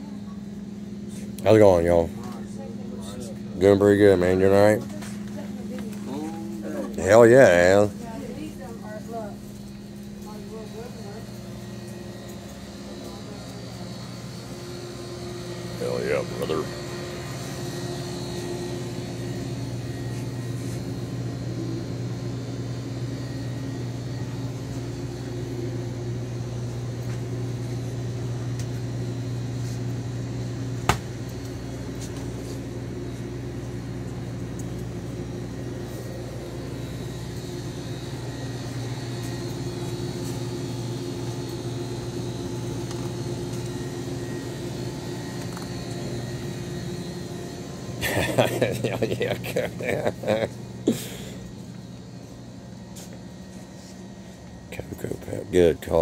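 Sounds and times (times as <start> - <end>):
cooling equipment hum: 0.0 - 56.0.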